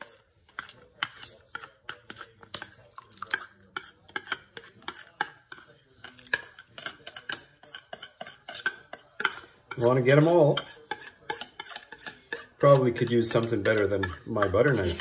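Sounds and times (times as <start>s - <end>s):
knife scraping metal tin: 0.0s - 15.0s.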